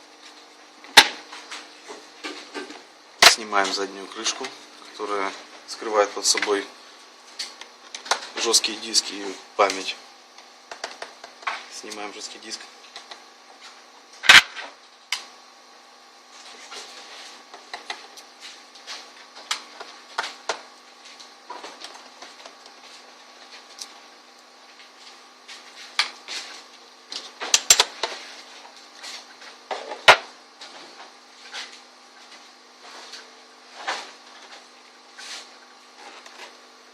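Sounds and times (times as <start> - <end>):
faint steady hum: 0.0 - 36.9.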